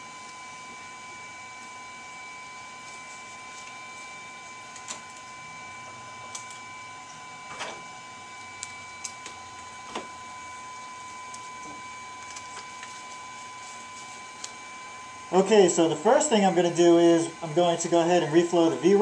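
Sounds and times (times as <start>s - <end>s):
machine whine and fan noise: 0.0s - 19.0s.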